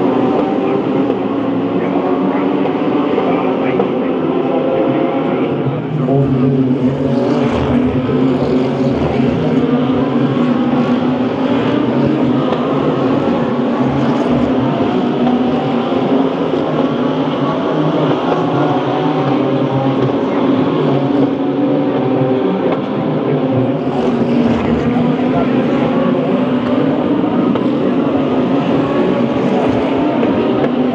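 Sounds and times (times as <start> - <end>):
race car engines running: 0.0 - 30.9.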